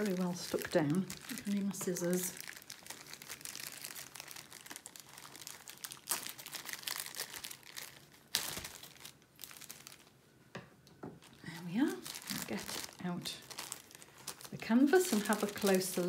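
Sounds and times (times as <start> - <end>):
plastic film crinkling: 0.0 - 10.2, 11.2 - 16.0.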